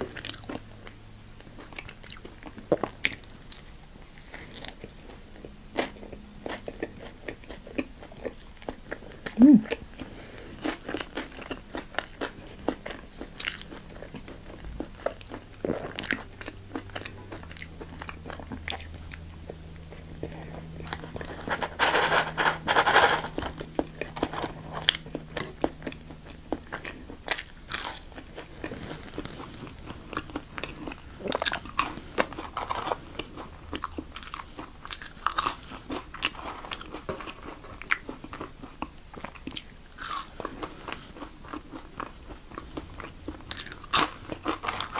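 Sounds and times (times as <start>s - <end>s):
crunchy food chewing: 0.0s - 44.9s.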